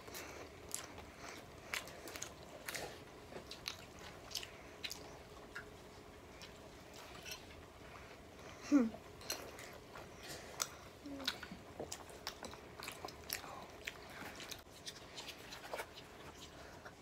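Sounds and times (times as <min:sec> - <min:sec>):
child chewing and biting: 0:00.0 - 0:17.0.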